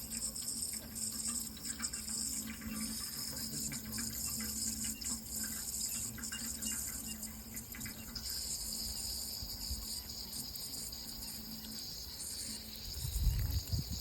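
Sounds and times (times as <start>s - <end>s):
insect chirring: 0.0s - 14.0s
water running and trickling: 0.0s - 14.0s.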